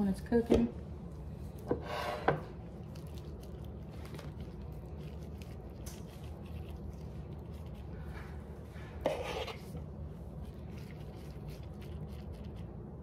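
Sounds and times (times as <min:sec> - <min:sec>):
steady low hum: 0:00.0 - 0:13.0
knife squishing cream cheese: 0:02.5 - 0:13.0.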